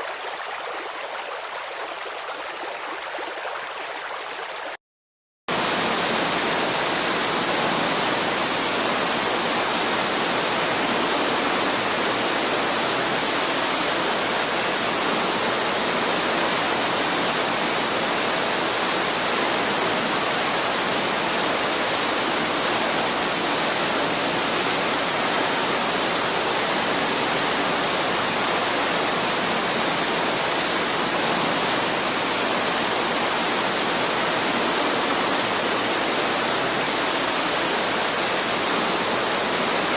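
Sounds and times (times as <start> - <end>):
heavy rain hiss: 5.5 - 39.9.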